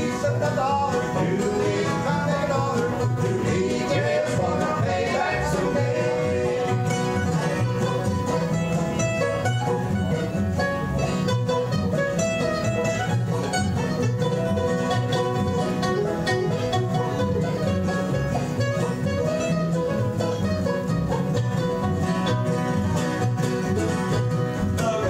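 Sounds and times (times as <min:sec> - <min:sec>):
acoustic guitars picking: 0:00.0 - 0:25.0
banjo picking: 0:00.0 - 0:25.0
mandolin picking: 0:00.0 - 0:25.0
upright bass: 0:00.0 - 0:25.0.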